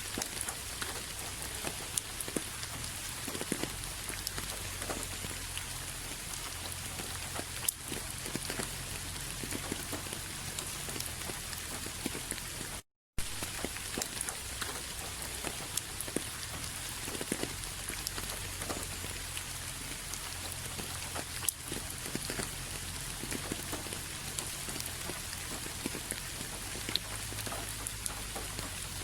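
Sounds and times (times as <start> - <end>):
raindrops ticking close by: 0.0 - 29.0
steady rain falling: 0.0 - 29.0.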